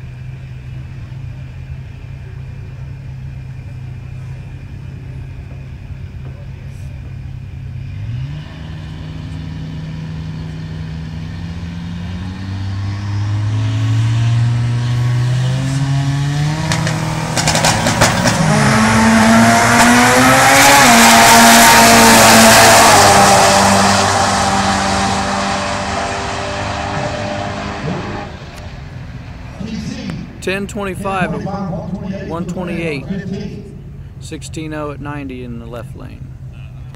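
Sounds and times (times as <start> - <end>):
drag racing cars accelerating: 0.0 - 36.9
engine crackles: 0.0 - 36.9.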